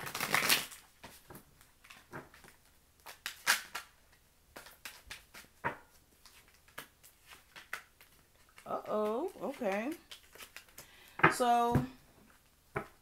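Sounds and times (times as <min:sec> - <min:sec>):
cards shuffling and tapping: 0:00.1 - 0:13.0.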